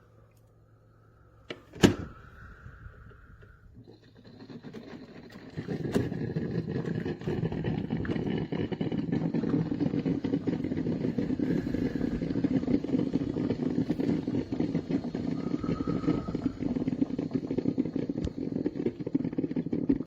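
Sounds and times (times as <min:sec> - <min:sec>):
drip coffee maker gurgling: 0:02.5 - 0:20.0.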